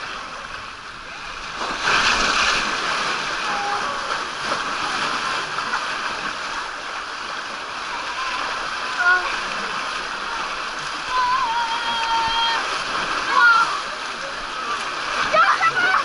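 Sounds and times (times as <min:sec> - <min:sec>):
water rushing down slide: 0:00.0 - 0:16.0.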